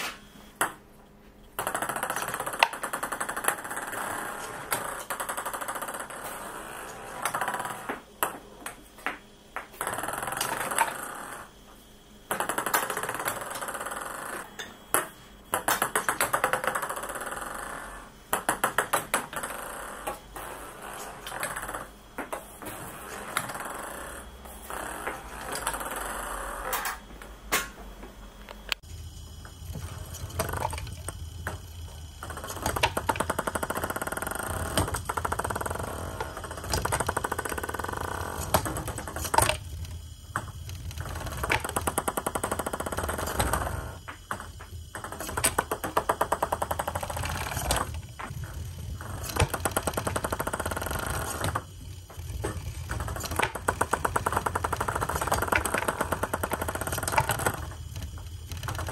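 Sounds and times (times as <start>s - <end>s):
plastic balls bouncing on wood: 1.5s - 11.6s, 12.3s - 27.7s, 28.6s - 58.9s.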